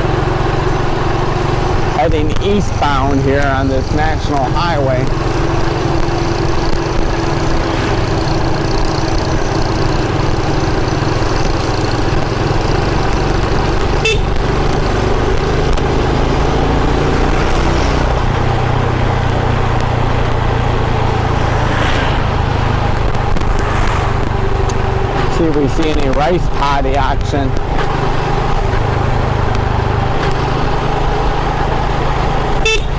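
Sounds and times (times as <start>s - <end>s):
motorcycle engine running: 0.0s - 32.9s
road noise: 0.0s - 32.9s.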